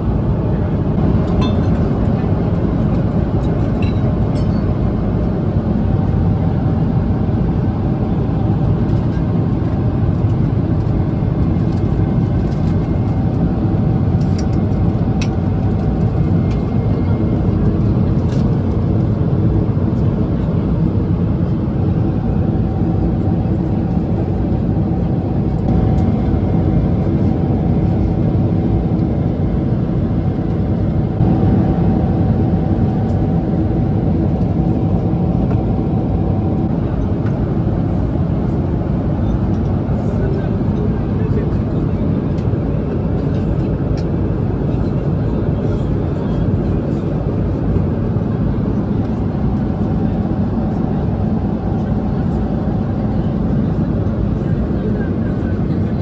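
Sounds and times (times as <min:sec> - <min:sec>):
airliner cabin airflow and engine: 0:00.0 - 0:56.0.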